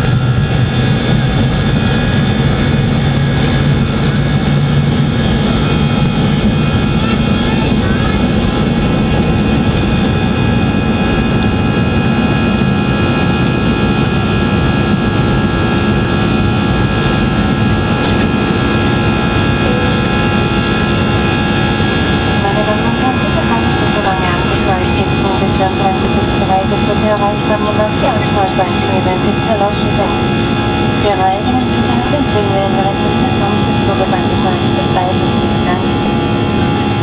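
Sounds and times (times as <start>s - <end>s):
jet engines heard from cabin: 0.0s - 37.0s.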